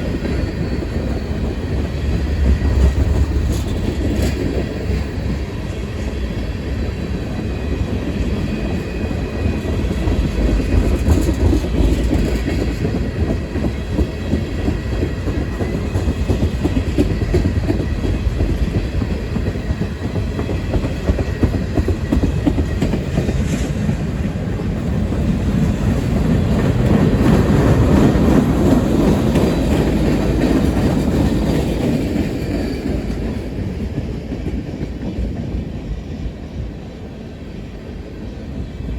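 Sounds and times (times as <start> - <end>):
freight train wheels rumbling and clicking: 0.0 - 38.9.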